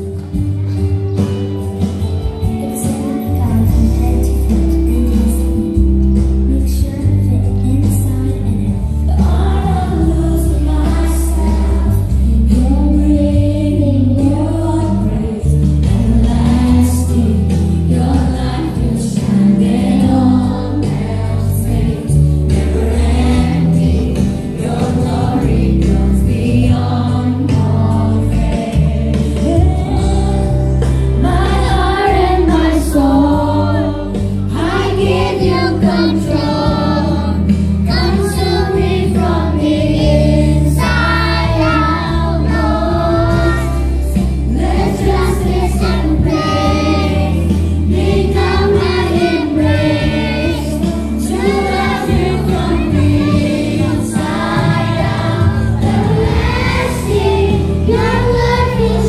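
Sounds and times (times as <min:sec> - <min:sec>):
backing track with heavy bass: 0:00.0 - 0:59.0
crowd singing along: 0:00.0 - 0:59.0
children singing into microphones: 0:07.4 - 0:59.0.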